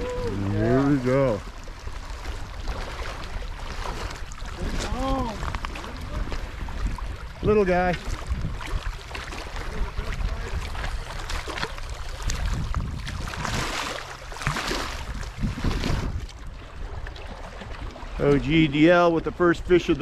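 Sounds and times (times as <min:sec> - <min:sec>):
waves lapping against rocks: 0:00.0 - 0:20.0
wind buffeting microphone: 0:00.0 - 0:20.0.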